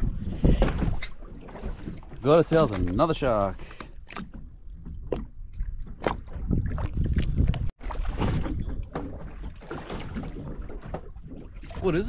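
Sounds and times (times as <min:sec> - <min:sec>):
wind and water against hull: 0:00.0 - 0:12.0.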